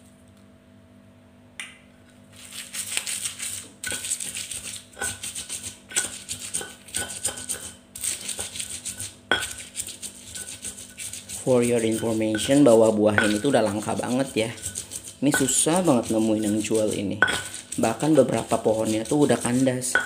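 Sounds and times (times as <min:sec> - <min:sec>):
stone pestle grinding: 0:02.4 - 0:20.0.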